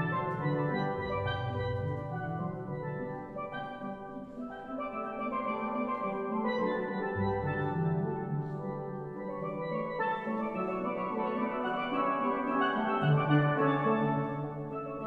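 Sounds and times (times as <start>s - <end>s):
steelpan ensemble playing: 0.0s - 15.0s
tenor pan solo: 0.0s - 15.0s.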